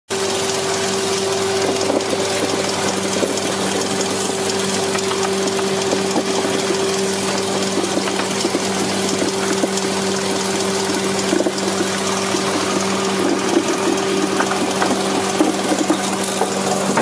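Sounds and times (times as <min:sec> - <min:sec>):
electric motor hum: 0:00.1 - 0:17.0
water jets spraying: 0:00.2 - 0:17.0.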